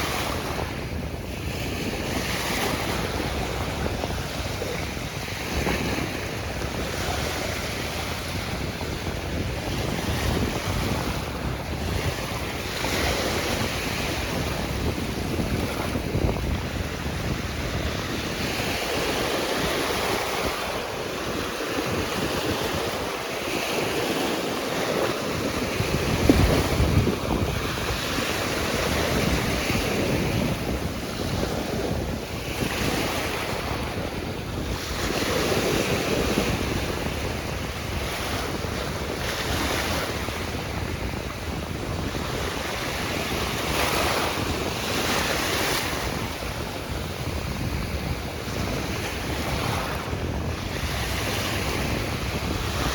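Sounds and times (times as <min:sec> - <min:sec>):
ocean surf washing: 0:00.0 - 0:52.9
wind buffeting microphone: 0:00.0 - 0:52.9.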